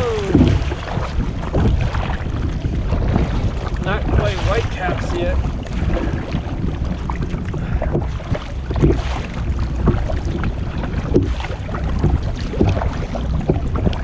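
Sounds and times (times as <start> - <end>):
waves slapping against kayak: 0.0 - 14.0
wind rumbling on microphone: 0.0 - 14.0.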